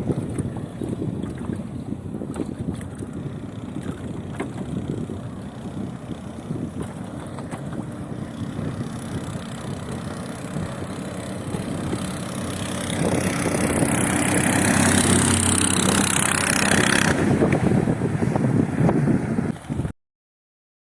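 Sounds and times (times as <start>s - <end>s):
outboard motor running: 0.0s - 19.9s.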